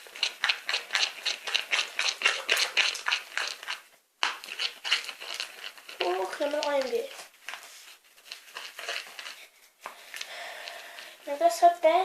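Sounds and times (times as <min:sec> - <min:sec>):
slime squelching: 0:00.0 - 0:12.0.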